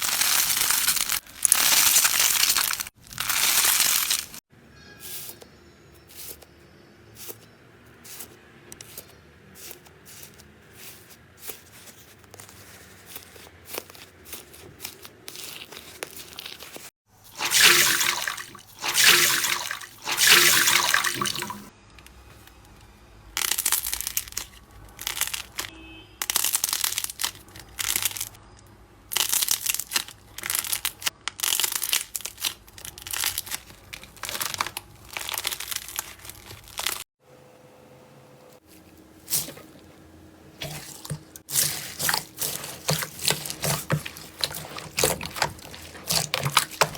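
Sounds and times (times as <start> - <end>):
slime squelching and crackling: 0.0 - 4.4, 8.1 - 21.7, 23.4 - 28.4, 29.1 - 37.1, 38.6 - 46.9.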